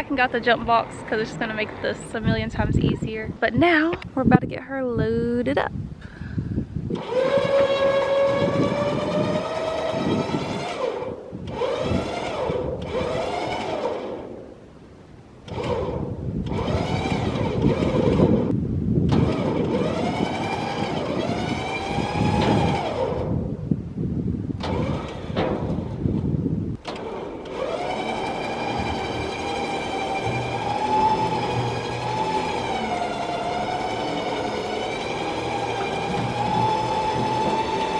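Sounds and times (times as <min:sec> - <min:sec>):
electric winch motor whining: 0:00.0 - 0:03.4, 0:06.8 - 0:23.7, 0:24.5 - 0:37.9.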